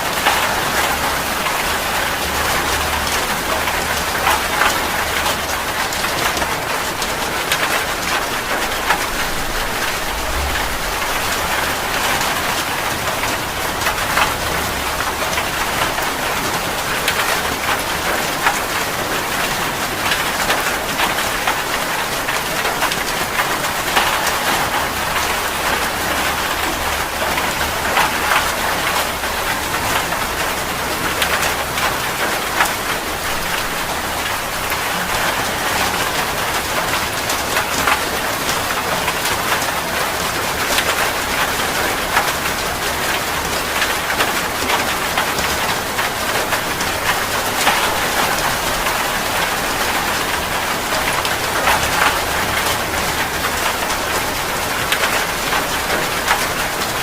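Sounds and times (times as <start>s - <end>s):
heavy rain falling: 0.0s - 57.0s
raindrops ticking on hard surface: 0.1s - 57.0s.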